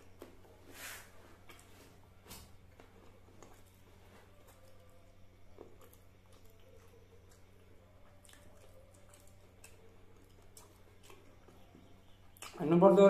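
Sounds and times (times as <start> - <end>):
low steady hum: 0.0 - 13.0
person chewing food: 1.4 - 12.6.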